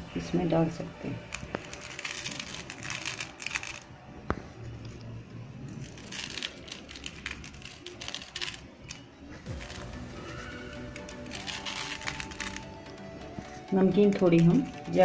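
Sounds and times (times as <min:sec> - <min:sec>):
light crackles on crisp papad: 0:01.2 - 0:15.0.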